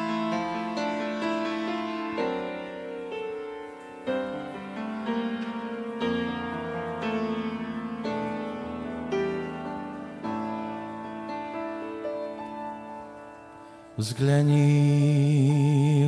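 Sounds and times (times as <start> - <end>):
slow piano hymn: 0.0 - 16.0.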